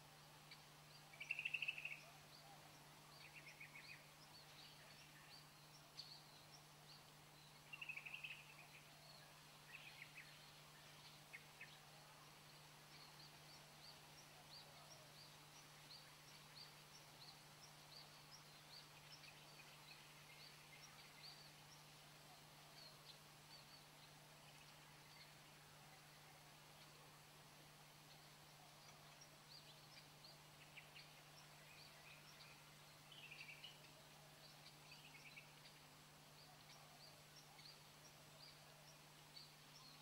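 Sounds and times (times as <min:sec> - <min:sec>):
low steady hum: 0:00.0 - 0:40.0
birds chirping: 0:00.5 - 0:40.0.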